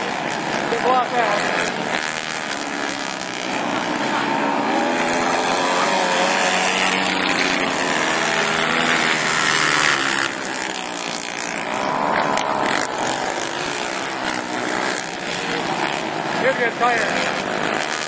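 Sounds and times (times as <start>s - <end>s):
quad engines revving: 0.0s - 18.0s.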